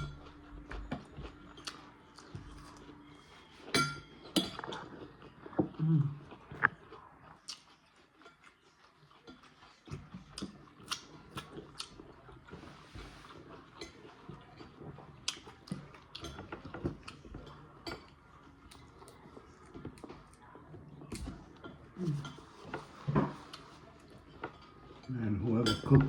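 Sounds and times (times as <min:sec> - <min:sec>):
chewing and biting food: 0:00.0 - 0:25.1.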